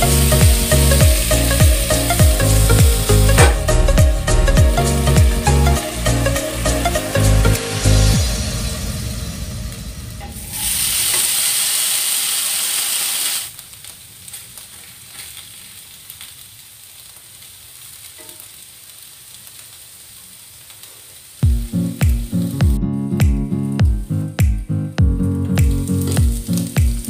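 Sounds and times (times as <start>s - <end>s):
potato slices sizzling in pan: 0.0s - 22.6s, 25.2s - 27.0s.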